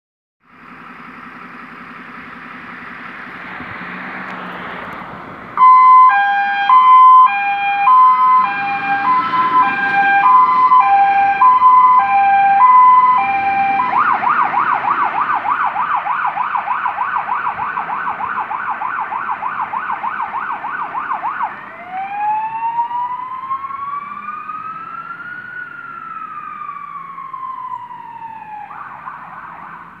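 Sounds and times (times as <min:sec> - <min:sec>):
diesel engine running: 0:00.4 - 0:30.0
fire engine siren: 0:05.6 - 0:30.0.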